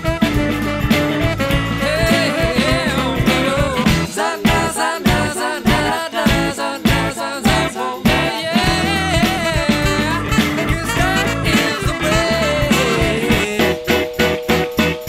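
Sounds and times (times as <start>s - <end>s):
music with singing over a beat: 0.0s - 15.0s.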